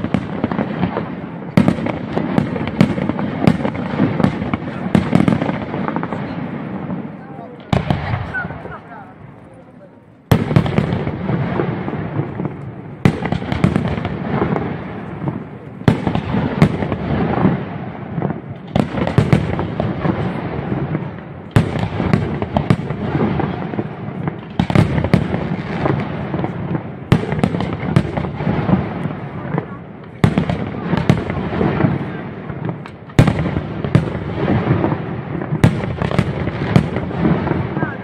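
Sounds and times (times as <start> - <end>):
dense firework crackling: 0.0 - 38.0.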